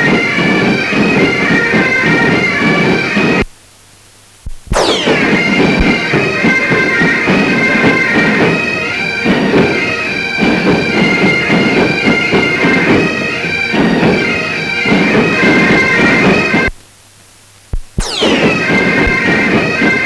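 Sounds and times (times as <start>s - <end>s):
bagpipes playing a march: 0.0s - 3.5s, 4.8s - 16.7s, 18.0s - 20.0s.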